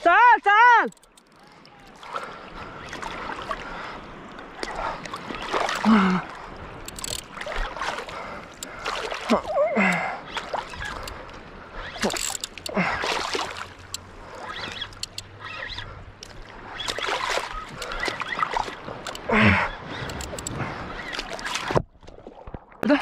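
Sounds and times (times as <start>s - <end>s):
water sloshing and lapping: 0.0s - 23.0s
water splashes: 0.0s - 23.0s.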